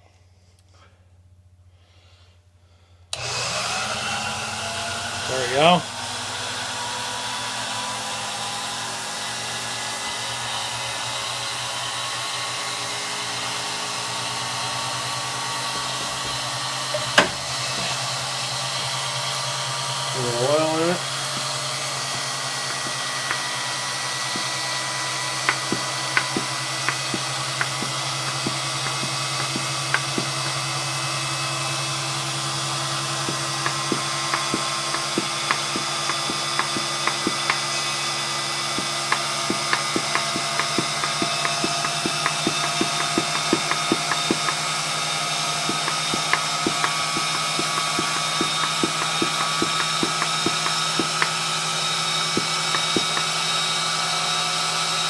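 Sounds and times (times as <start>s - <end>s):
grinder motor hum: 3.2s - 55.0s.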